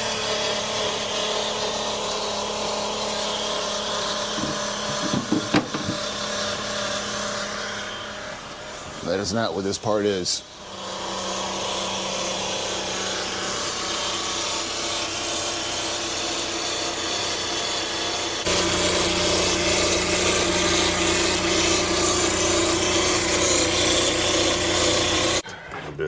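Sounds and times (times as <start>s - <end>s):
car engine grinding and rasping: 0.0s - 9.0s, 12.4s - 25.4s.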